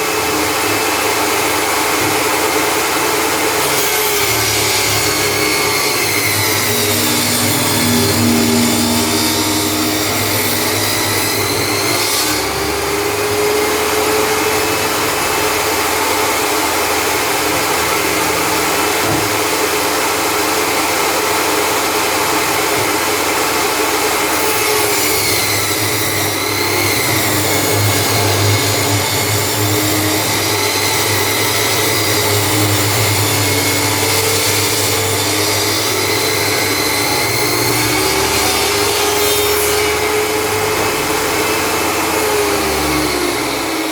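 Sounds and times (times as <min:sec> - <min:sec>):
electric table saw whining: 0:00.0 - 0:43.9.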